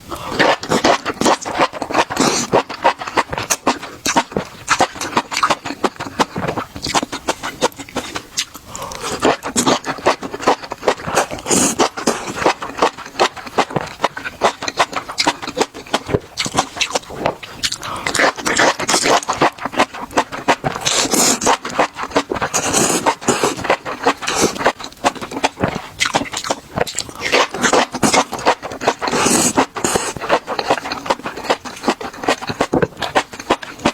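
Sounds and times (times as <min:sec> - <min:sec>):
crunching and chewing food: 0:00.0 - 0:33.9.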